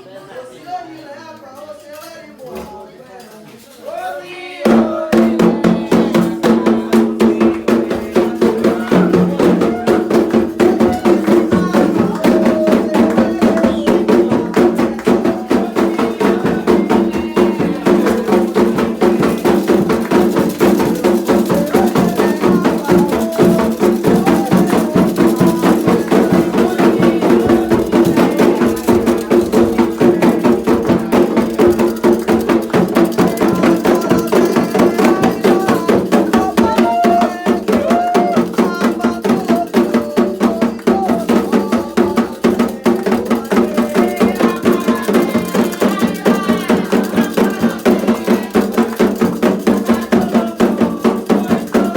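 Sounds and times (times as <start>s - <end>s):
voices singing: 0.0s - 51.9s
drums and percussion: 3.5s - 51.9s.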